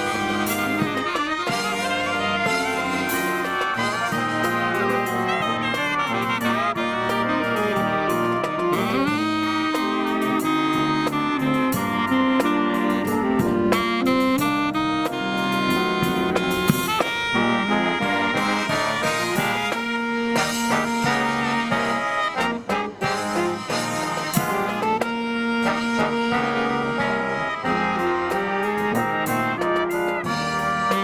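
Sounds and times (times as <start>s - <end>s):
brass marching band playing: 0.0s - 31.0s.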